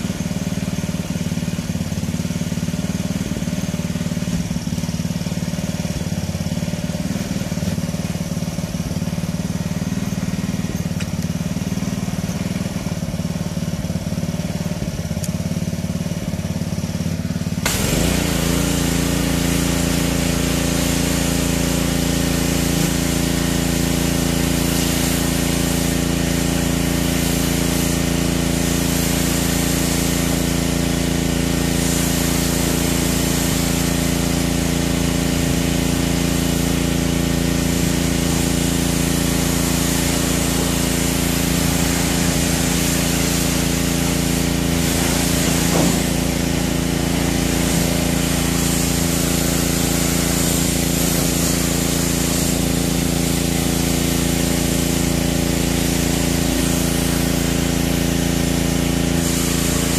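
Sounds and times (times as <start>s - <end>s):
pressure washer motor hum: 0.0s - 59.9s
water jet spraying: 0.0s - 59.9s.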